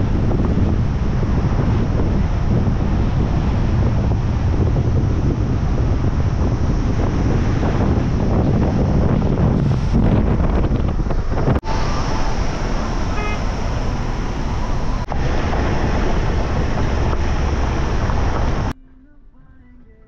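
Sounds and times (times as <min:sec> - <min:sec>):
vehicle road noise: 0:00.0 - 0:18.8
wind rushing on microphone: 0:00.0 - 0:18.8.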